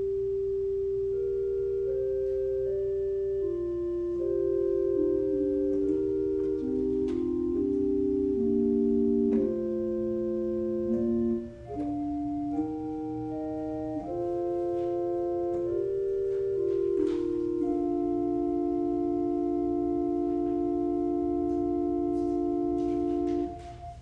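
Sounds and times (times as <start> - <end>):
organ playing slow chords: 0.0 - 24.0.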